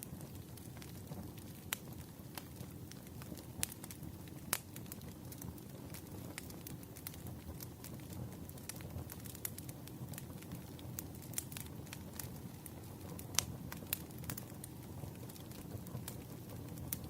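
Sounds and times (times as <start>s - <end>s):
fire popping and snapping: 0.0s - 17.0s
wood fire crackling: 0.0s - 17.0s.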